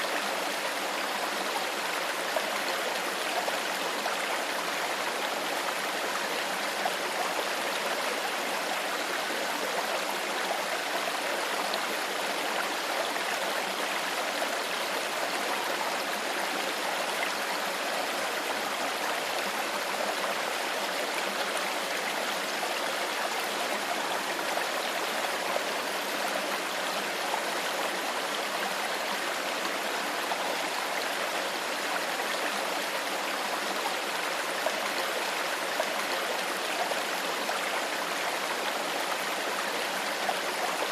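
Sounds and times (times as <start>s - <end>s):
water flowing over rocks: 0.0s - 40.9s.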